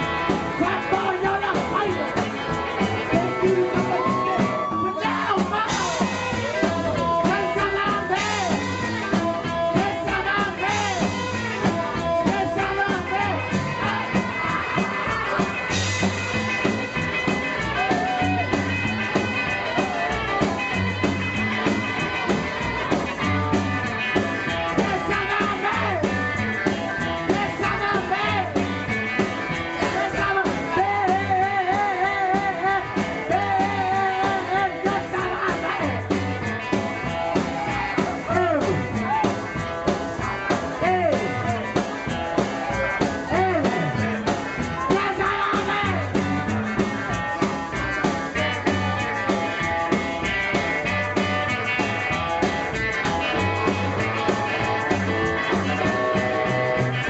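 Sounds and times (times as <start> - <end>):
rock and roll band playing: 0.0 - 57.0.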